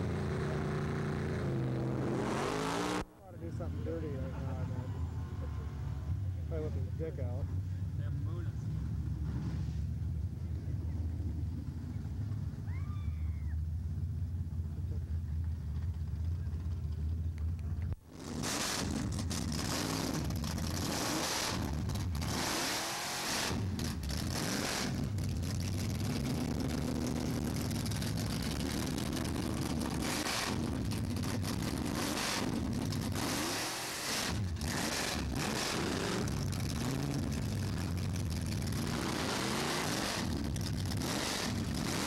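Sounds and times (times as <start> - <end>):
drag car engine revving: 0.0 - 12.7, 13.6 - 42.0
low engine rumble: 3.0 - 22.4, 23.5 - 33.3, 34.2 - 42.0.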